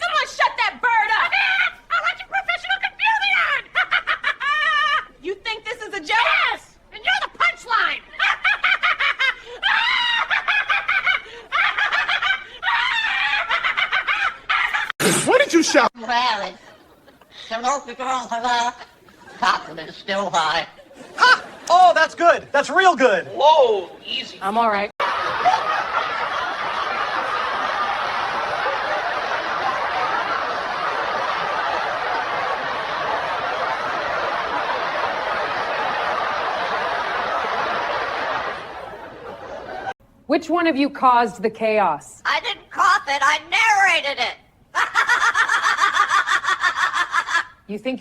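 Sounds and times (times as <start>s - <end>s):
crowd laughing: 1.1s - 5.2s, 7.0s - 40.0s, 44.8s - 47.6s.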